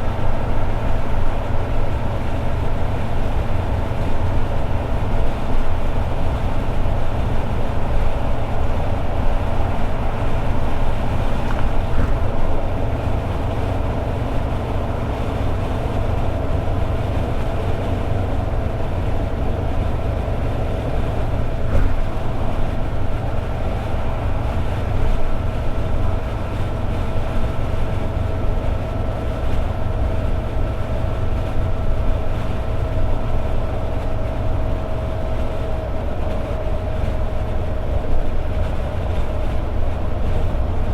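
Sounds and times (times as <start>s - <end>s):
car engine cruising: 0.0s - 40.9s
road noise drone: 0.0s - 40.9s.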